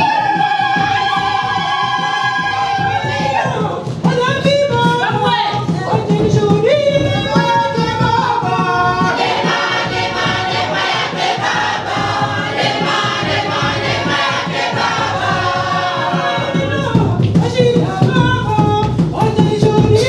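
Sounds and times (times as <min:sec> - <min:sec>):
choir singing gospel song: 0:00.0 - 0:04.2, 0:04.9 - 0:18.3
steady beat: 0:00.0 - 0:20.0.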